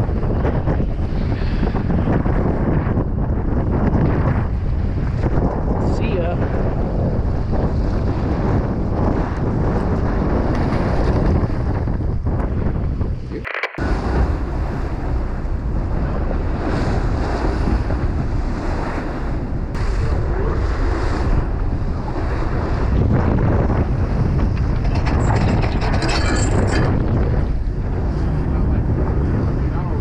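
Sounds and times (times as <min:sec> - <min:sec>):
boat engine rumble: 0:00.0 - 0:30.0
water rushing past boat: 0:00.0 - 0:30.0
wind buffeting microphone: 0:00.0 - 0:30.0.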